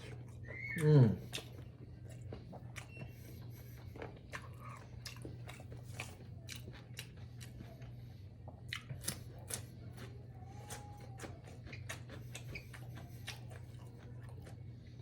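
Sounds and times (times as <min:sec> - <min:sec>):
wet chewing clicks and smacks: 0:00.0 - 0:14.6
steady low hum: 0:00.0 - 0:15.0.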